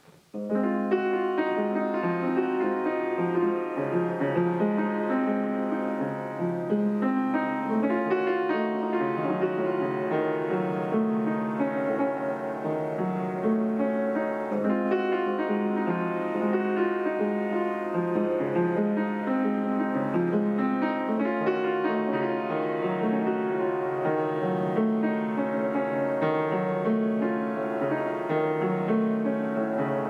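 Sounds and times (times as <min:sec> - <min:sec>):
upright piano playing: 0:00.0 - 0:30.0.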